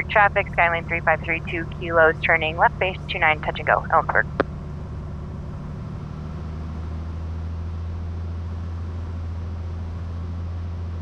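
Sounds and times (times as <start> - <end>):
plane engine and propeller droning: 0.0 - 11.0.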